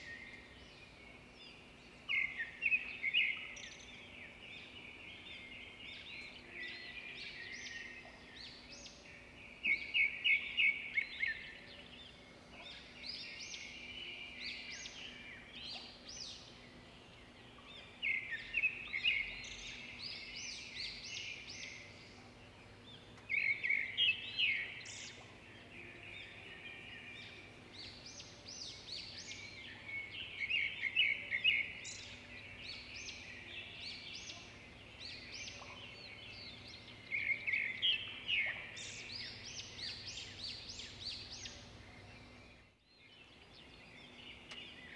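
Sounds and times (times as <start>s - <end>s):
birds chirping and trilling: 0.0s - 44.9s
faint steady hum: 0.0s - 44.9s.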